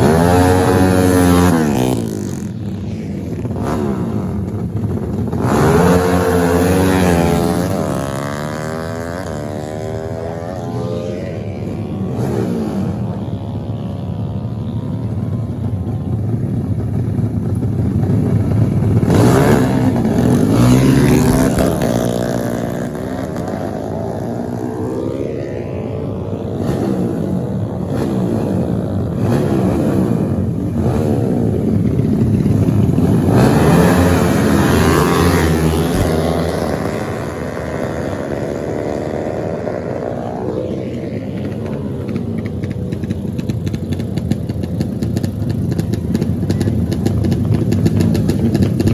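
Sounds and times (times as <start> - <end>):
racing motorcycle engines revving: 0.0 - 48.9.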